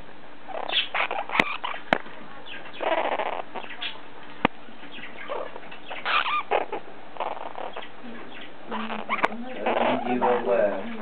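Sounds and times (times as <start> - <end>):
parrot chirping: 0.5 - 4.1, 4.9 - 11.0.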